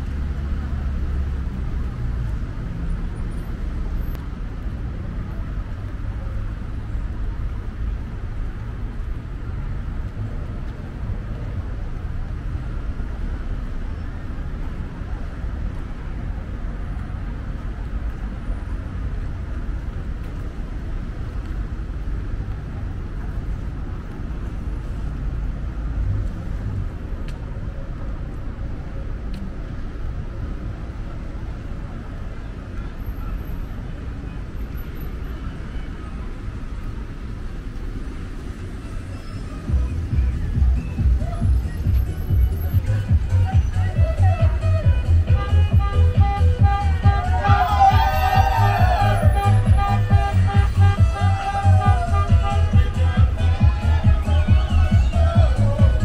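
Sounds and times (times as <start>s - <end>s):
low rumble of traffic: 0.0s - 56.0s.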